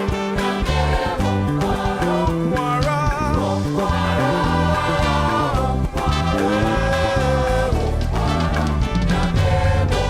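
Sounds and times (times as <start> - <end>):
live gospel band music: 0.0 - 10.0.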